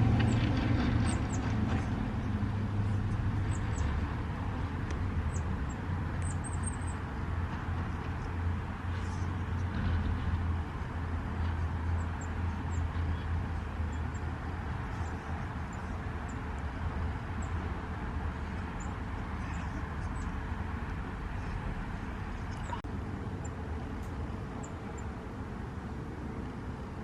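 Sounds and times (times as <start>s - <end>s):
small birds chirping: 0.0s - 10.8s, 11.4s - 22.8s, 23.4s - 25.2s
distant traffic rumble: 0.0s - 27.0s.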